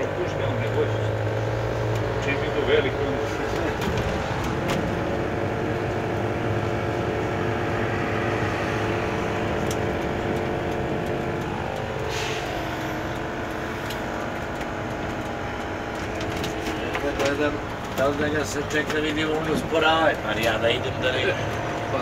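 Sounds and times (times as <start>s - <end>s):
vehicle engine and road drone: 0.0s - 22.0s.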